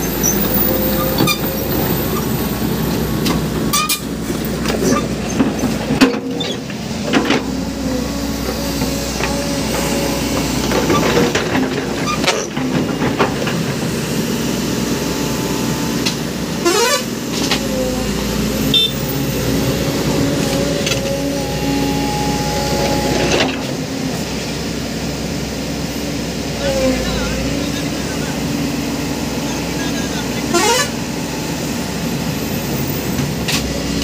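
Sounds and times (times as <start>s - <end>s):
heavy diesel engines droning: 0.0s - 34.0s.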